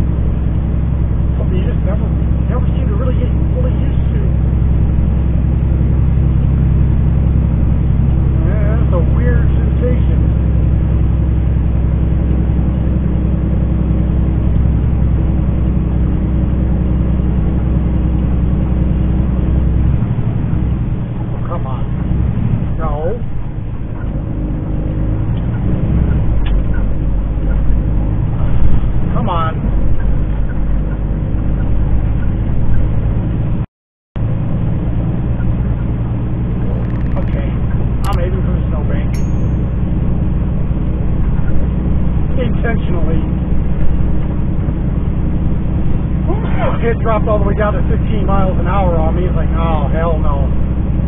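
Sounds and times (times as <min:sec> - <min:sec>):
road noise: 0:00.0 - 0:33.6, 0:34.2 - 0:51.0
truck diesel engine drone: 0:00.0 - 0:33.6, 0:34.2 - 0:51.0.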